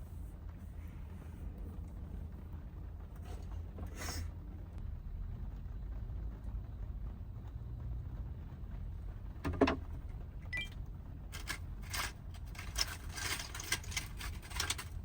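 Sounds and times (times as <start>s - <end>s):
van road and engine rumble: 0.0s - 15.0s.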